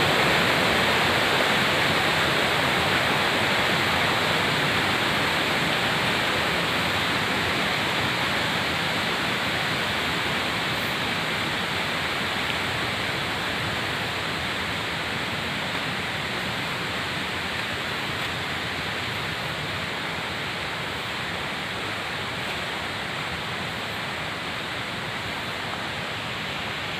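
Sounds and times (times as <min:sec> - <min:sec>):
running water rushing: 0:00.0 - 0:26.9.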